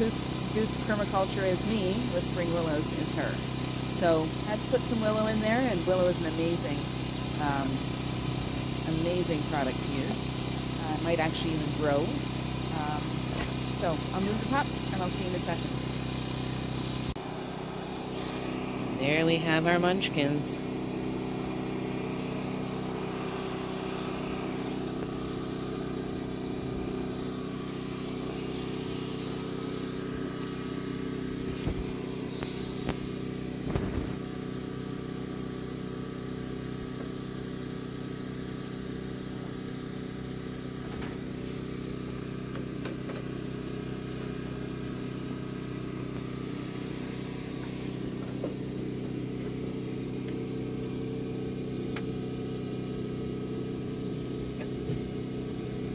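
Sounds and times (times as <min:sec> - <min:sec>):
steady engine drone: 0:00.0 - 0:55.9.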